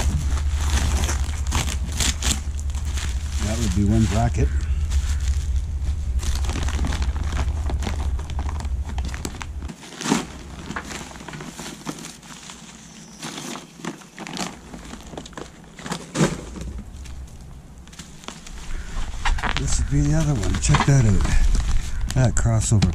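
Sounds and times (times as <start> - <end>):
low rumble: 0.0 - 13.1, 14.5 - 22.9
plastic and paper wrap crinkling: 0.0 - 22.8.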